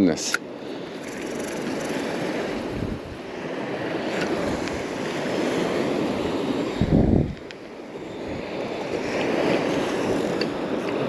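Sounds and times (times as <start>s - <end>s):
surf waves washing on sand: 0.0s - 11.0s
wind rumbling on microphone: 0.7s - 11.0s.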